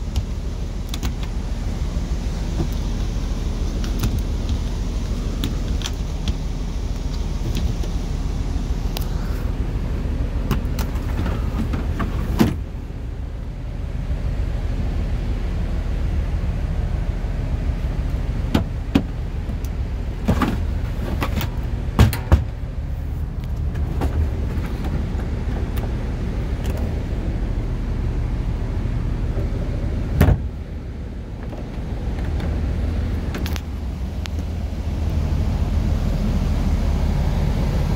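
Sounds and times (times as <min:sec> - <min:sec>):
bus engine idling: 0:00.0 - 0:37.9.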